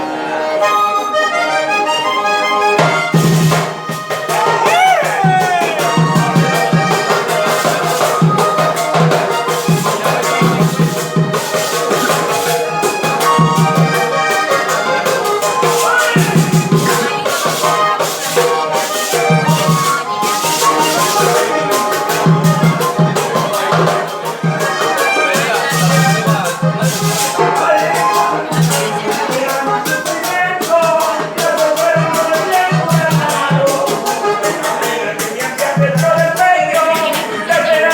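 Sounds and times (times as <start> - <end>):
latin music with shaker rattle: 2.8 - 37.9.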